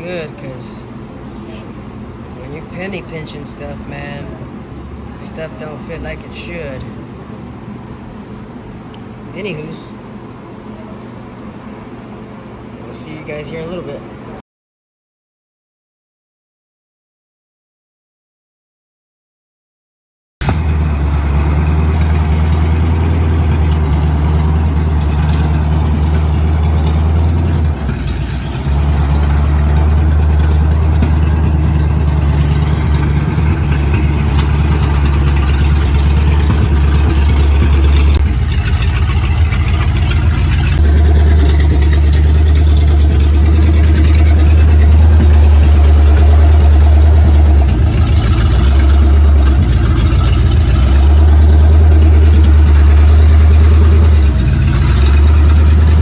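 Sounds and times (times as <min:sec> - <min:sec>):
large engine humming: 0:00.0 - 0:14.4, 0:20.4 - 0:56.0.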